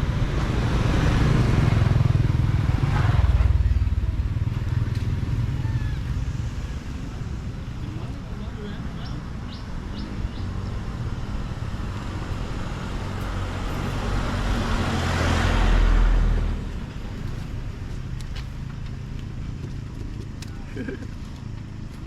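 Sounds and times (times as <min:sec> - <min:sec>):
vehicle passing by: 0:00.0 - 0:20.3
steady low rumble: 0:00.0 - 0:21.1.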